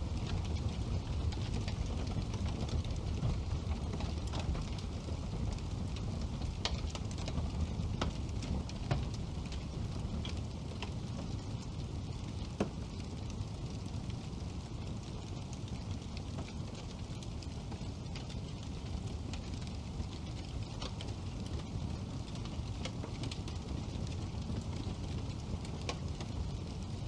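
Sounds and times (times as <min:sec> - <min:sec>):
fire crackling and popping: 0:00.0 - 0:27.0
fire rumbling: 0:00.0 - 0:27.0.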